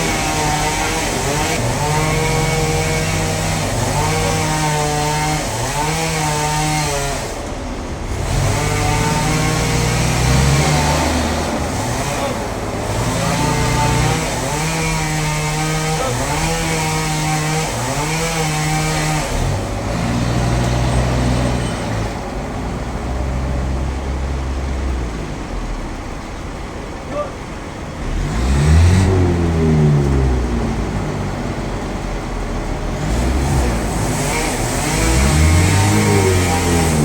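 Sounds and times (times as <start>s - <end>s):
engine running and revving: 0.0s - 26.4s, 28.0s - 37.0s.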